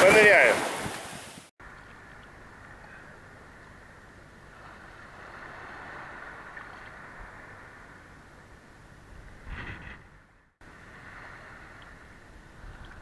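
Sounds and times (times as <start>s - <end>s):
muffled sloshing of sea water: 0.0s - 9.5s, 10.6s - 13.0s.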